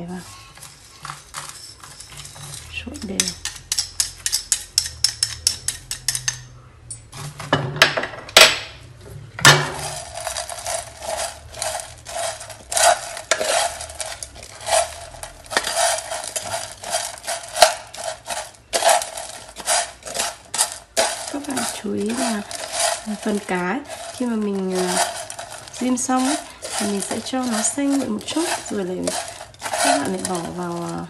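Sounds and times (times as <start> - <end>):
chopsticks scraping a metal pan: 0.0 - 6.5, 9.4 - 31.0.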